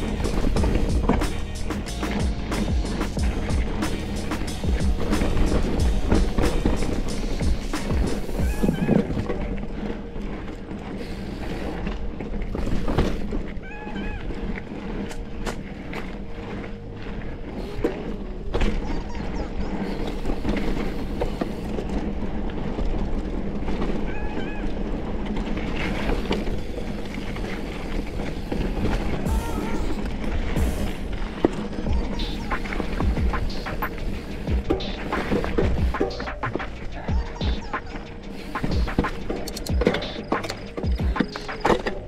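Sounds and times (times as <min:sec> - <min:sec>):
bike rattling and clattering: 0:00.0 - 0:42.0
bike tyres rolling: 0:00.0 - 0:42.0.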